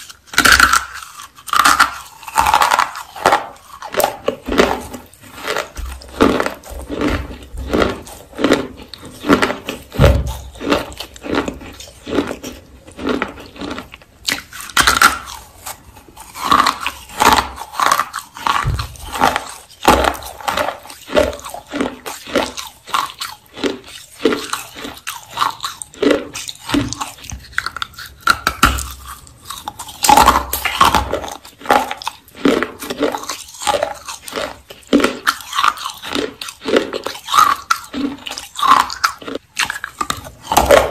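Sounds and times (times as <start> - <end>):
chewing crunches: 0.0 - 40.9
crunching bites: 0.0 - 40.9.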